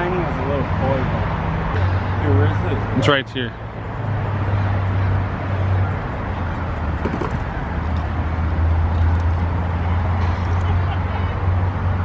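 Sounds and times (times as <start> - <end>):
road traffic drone: 0.0 - 12.0.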